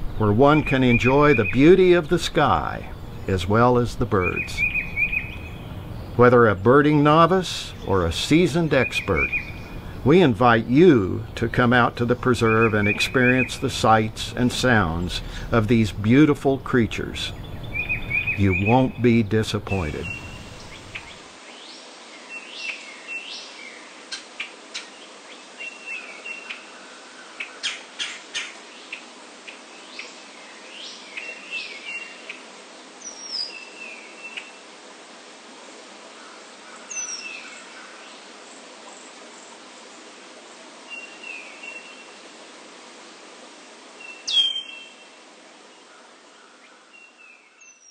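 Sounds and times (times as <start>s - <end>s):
songbird singing: 0.0s - 34.8s, 35.5s - 47.9s
faint hiss: 0.0s - 47.9s.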